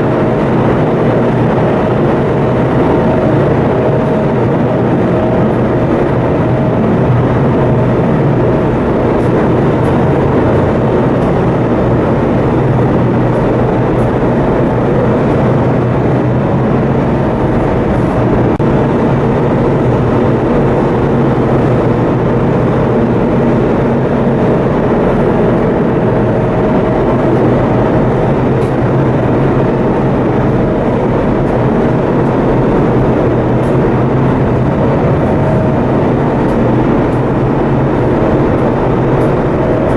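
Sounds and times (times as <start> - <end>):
faint steady tones: 0.0 - 18.7, 25.0 - 39.9
ship diesel machinery drone: 0.0 - 39.9.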